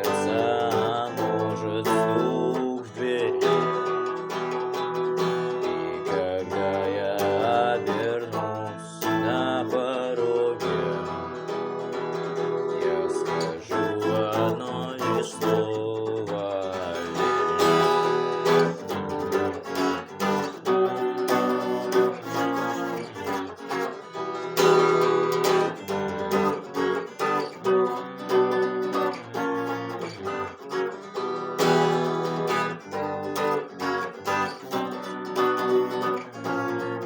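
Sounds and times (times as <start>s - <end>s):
electric guitar strumming chords: 0.0s - 37.0s.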